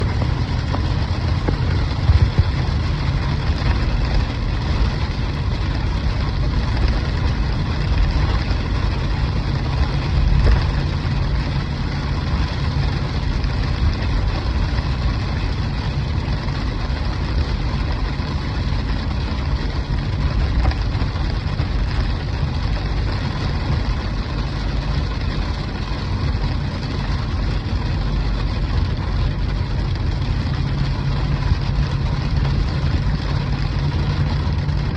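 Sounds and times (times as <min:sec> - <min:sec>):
heavy low rumble: 0:00.0 - 0:34.9.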